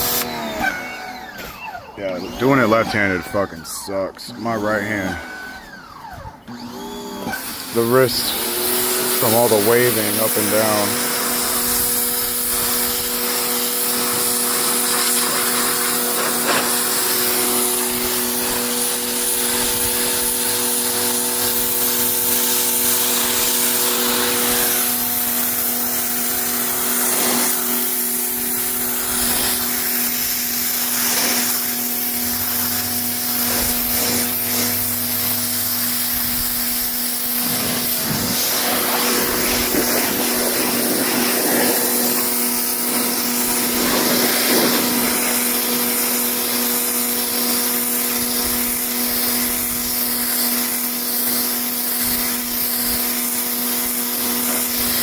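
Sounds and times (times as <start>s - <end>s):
pressure washer motor hum: 0.0s - 55.0s
water jet spraying fabric: 7.3s - 55.0s.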